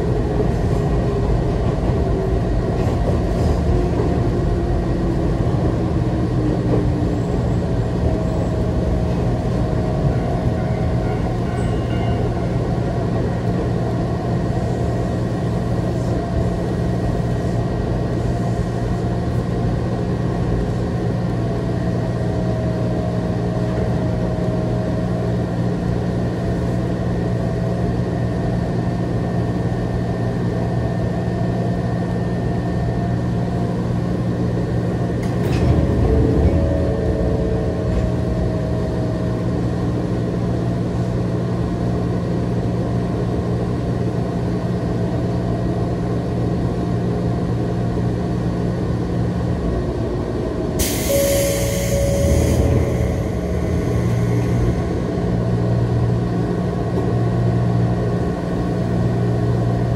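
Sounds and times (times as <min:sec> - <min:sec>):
train cabin low hum: 0:00.0 - 0:59.9.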